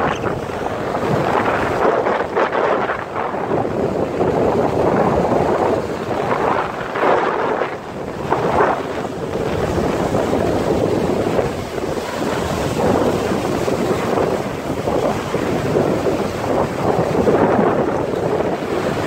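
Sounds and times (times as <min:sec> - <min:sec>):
surf breaking over rocks: 0:00.0 - 0:19.0
wind buffeting microphone: 0:00.0 - 0:19.0.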